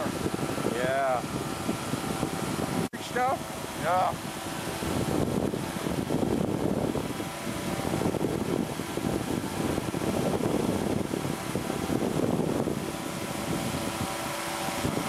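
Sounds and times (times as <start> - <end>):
engine and propeller droning: 0.0 - 15.0
wind on microphone: 0.0 - 15.0.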